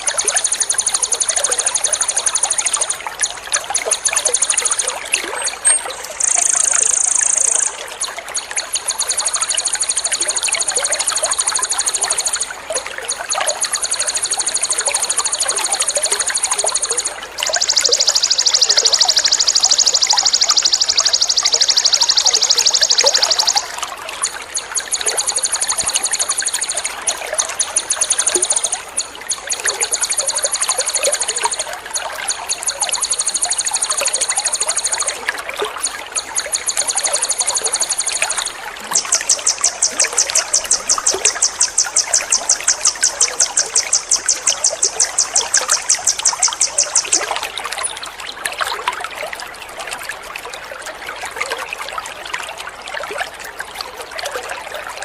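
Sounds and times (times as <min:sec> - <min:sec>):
songbird trilling: 0:00.0 - 0:12.5, 0:13.1 - 0:35.2, 0:36.2 - 0:47.9
water trickling: 0:00.0 - 0:55.0.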